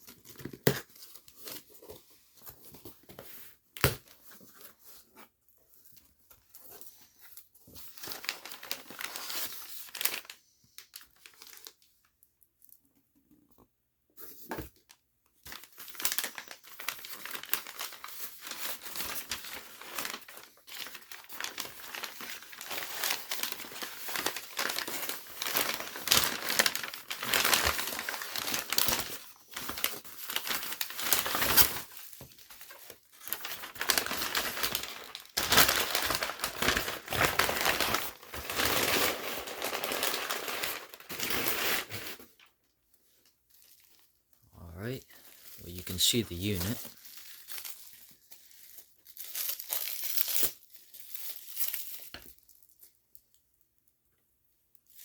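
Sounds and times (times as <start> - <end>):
packaging crinkling and rustling: 0.0 - 12.8, 14.6 - 44.2, 44.9 - 53.4.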